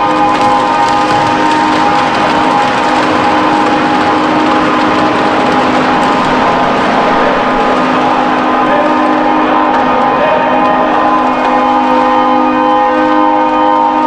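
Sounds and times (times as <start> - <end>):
loud rushing noise: 0.0 - 13.4
horns blasting: 0.0 - 14.0.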